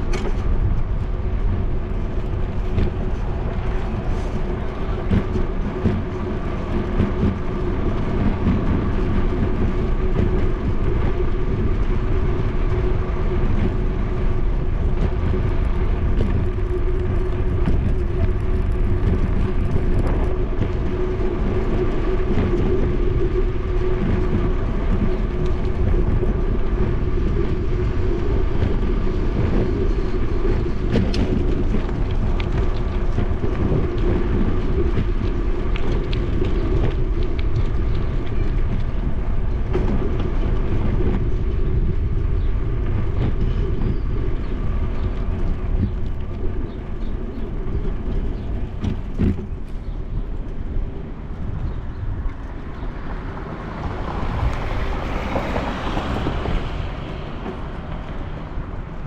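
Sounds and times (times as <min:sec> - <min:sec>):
tyre and road noise: 0:00.0 - 0:59.0
wind rumbling on microphone: 0:00.0 - 0:59.0.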